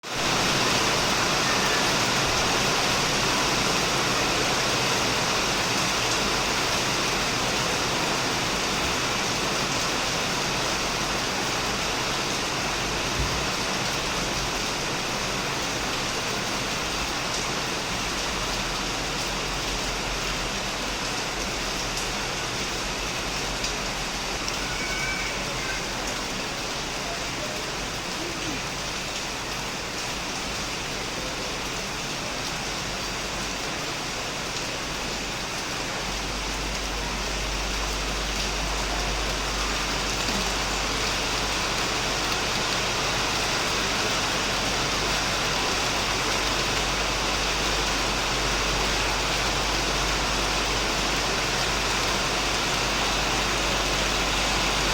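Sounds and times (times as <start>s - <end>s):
heavy rain on a roof: 0.0s - 54.9s.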